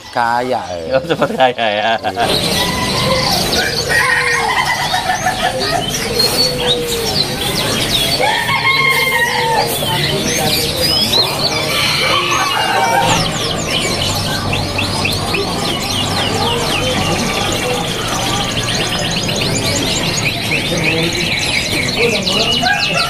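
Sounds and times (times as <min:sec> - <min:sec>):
small birds chirping: 0:00.0 - 0:23.0
dove cooing: 0:00.7 - 0:23.0.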